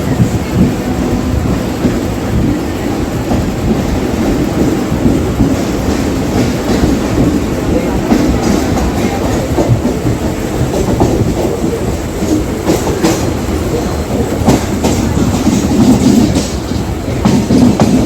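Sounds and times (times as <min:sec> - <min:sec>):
electric train rumble: 0:00.0 - 0:18.0
wheels clacking over rail joints: 0:00.0 - 0:18.0.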